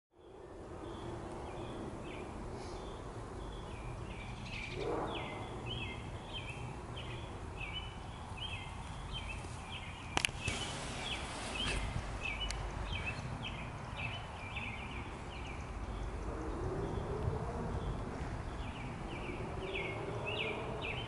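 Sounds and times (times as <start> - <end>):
low outdoor background noise: 0.1 - 21.0.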